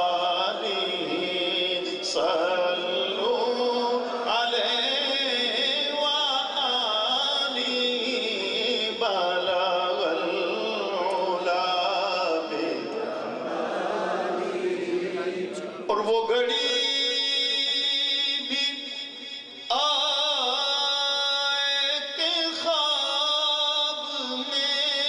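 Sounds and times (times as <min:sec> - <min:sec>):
man singing into a microphone: 0:00.0 - 0:13.5, 0:15.5 - 0:25.0.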